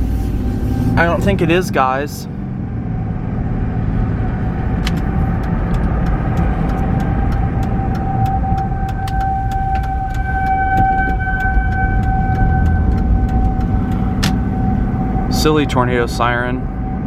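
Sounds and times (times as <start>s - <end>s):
car road rumble: 0.0s - 17.0s
steady high tone: 0.0s - 17.0s.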